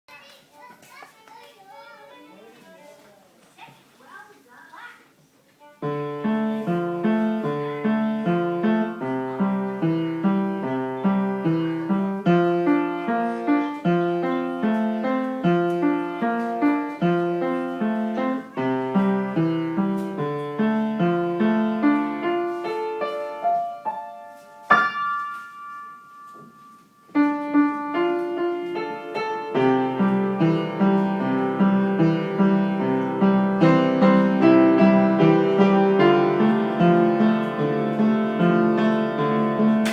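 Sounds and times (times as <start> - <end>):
piano broken chords: 5.9 - 39.9.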